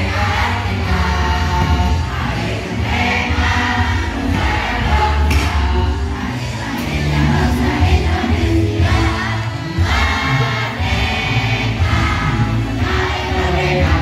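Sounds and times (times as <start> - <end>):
group singing in chorus: 0.0 - 14.0.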